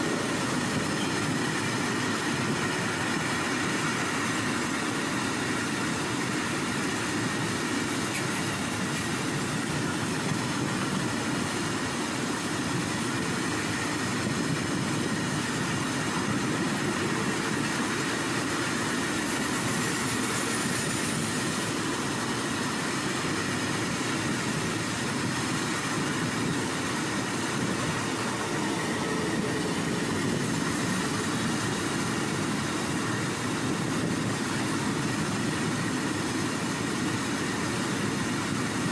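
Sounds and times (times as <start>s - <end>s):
faint high whine: 0.0s - 35.1s
train wheel-on-rail noise: 0.0s - 38.9s.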